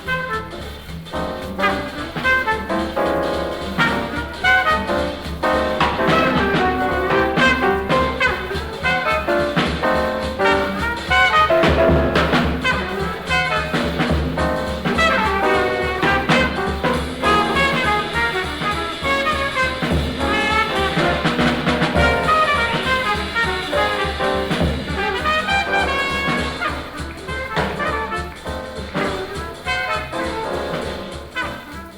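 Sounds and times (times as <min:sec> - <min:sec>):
jazz horns: 0:00.0 - 0:31.9.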